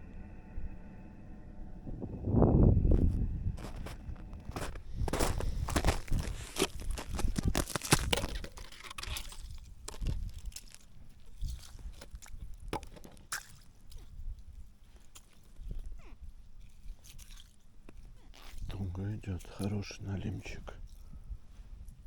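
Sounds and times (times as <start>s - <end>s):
footsteps crunching in snow: 2.9s - 22.0s
slushy handling sounds: 3.6s - 22.0s.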